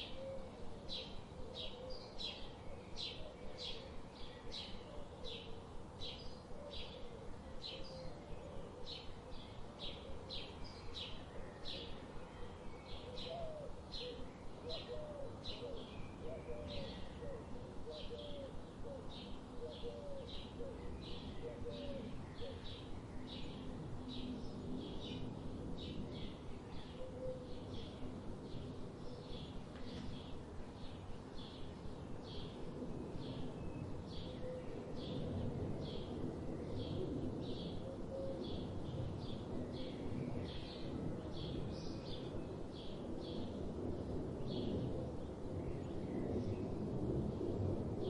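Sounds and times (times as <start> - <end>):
faint outdoor background hiss: 0.0 - 48.0.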